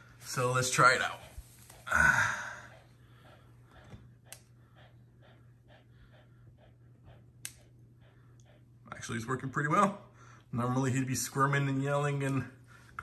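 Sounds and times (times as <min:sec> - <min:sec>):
dog panting: 0:00.0 - 0:12.9.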